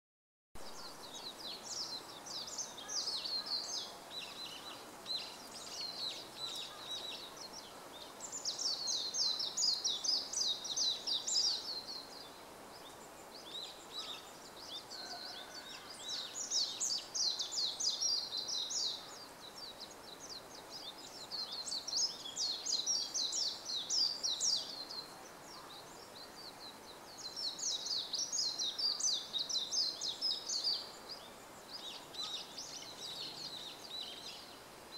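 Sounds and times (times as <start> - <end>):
bird twittering song: 0.6 - 34.9.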